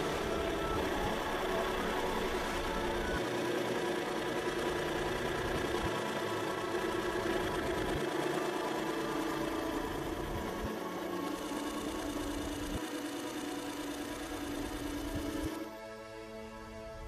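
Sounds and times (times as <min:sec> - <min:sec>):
hydraulic pump motor humming: 0:00.0 - 0:15.9.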